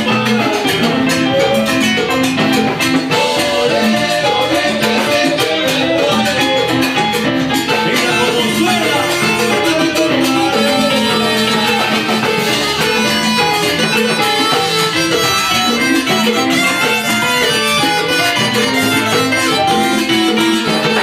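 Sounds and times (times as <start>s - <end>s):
live salsa band instrumental: 0.0s - 21.0s.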